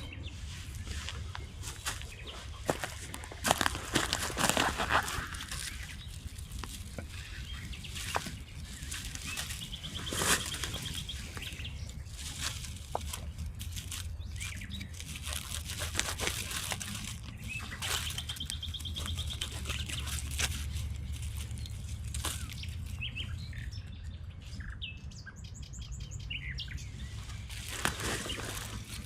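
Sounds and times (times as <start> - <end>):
footsteps on leaf litter and twigs: 0.0 - 24.0, 26.7 - 29.0
low rumble: 0.0 - 29.0.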